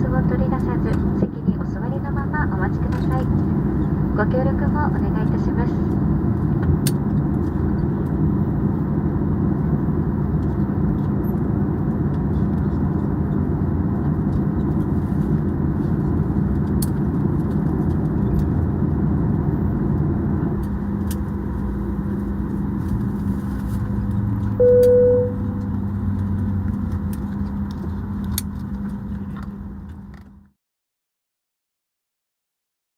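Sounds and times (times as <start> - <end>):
jet engine rumble: 0.0 - 30.4.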